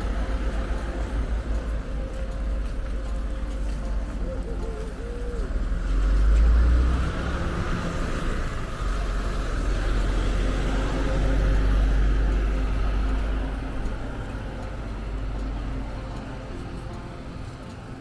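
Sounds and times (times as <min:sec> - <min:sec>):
bus passing by: 0:00.0 - 0:18.0.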